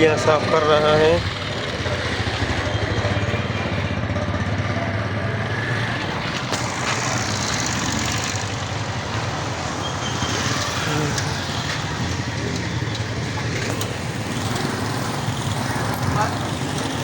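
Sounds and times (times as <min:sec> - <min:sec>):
street traffic: 0:00.0 - 0:17.0
vehicle engine throbbing: 0:00.0 - 0:17.0.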